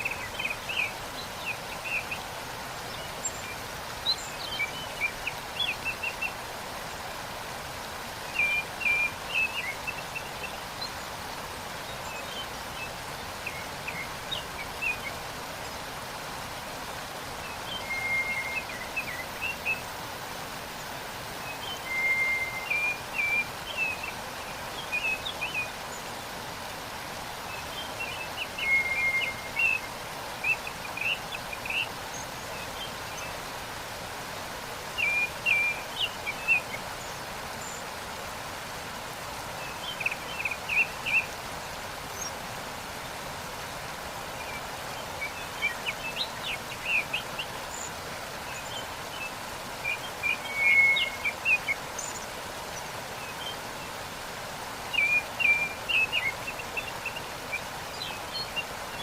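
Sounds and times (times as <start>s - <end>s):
songbirds chirping: 0.0s - 59.0s
waterfall rushing: 0.0s - 59.0s.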